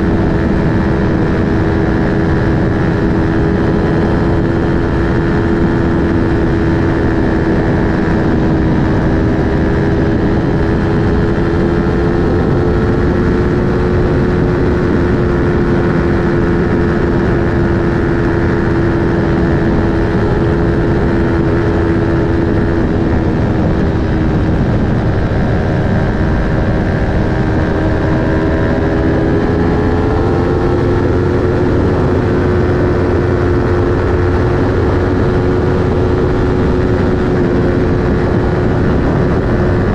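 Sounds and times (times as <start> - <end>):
motorcycle engine at high revs: 0.0 - 39.9
wind rush: 0.0 - 39.9.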